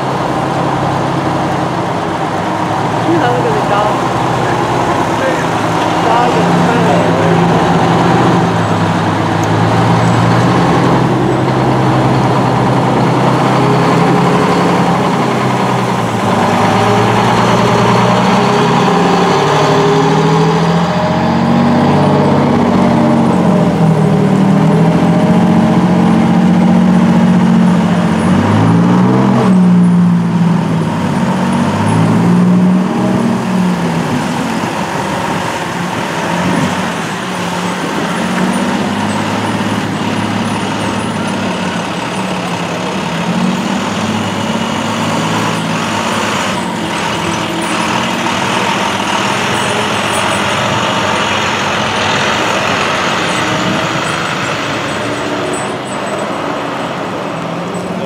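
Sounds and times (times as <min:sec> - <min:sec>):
emergency vehicle engines passing: 0:00.0 - 0:58.0.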